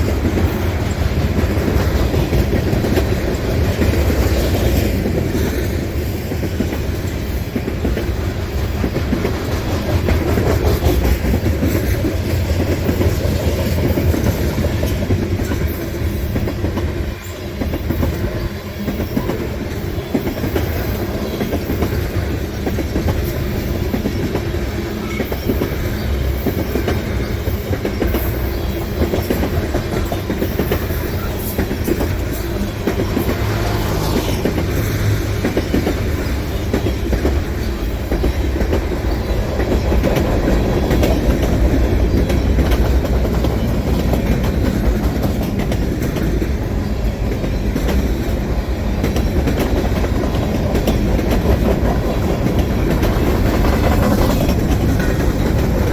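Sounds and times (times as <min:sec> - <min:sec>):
freight train wheels rumbling: 0:00.0 - 0:55.9
rapid clicking over track: 0:00.0 - 0:55.9.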